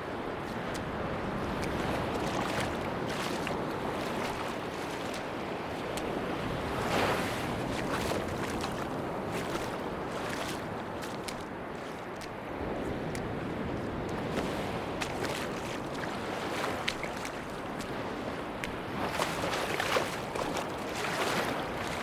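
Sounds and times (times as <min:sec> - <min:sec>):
sea waves washing onto beach: 0:00.0 - 0:22.0.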